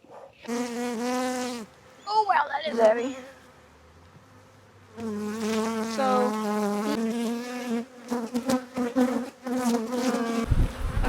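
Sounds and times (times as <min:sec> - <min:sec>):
bees buzzing: 0:00.5 - 0:10.5.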